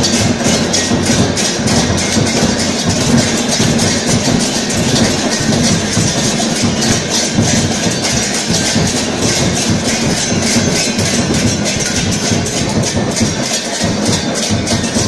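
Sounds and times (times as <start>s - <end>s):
brass cymbals clashing: 0.0s - 15.0s.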